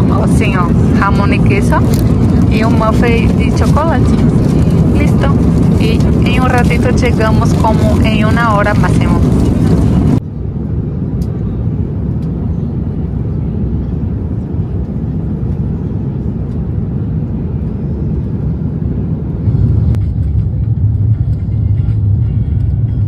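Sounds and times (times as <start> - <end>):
jet cabin engine roar: 0.0 - 23.0.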